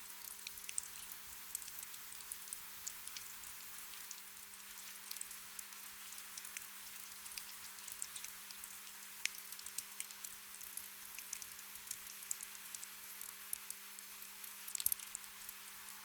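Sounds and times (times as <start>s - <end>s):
gentle rain hiss: 0.0s - 16.0s.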